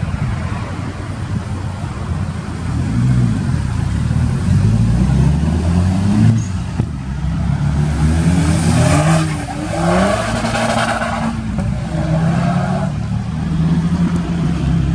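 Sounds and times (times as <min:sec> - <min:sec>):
car engines running: 0:00.0 - 0:14.9
car revving and pulling away: 0:00.0 - 0:14.9.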